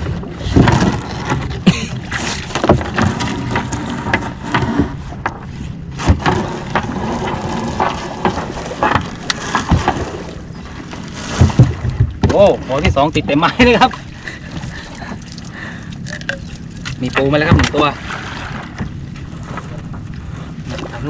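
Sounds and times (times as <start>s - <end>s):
net and wood clattering on hull: 0.0s - 21.0s
steady low hum: 0.0s - 21.0s.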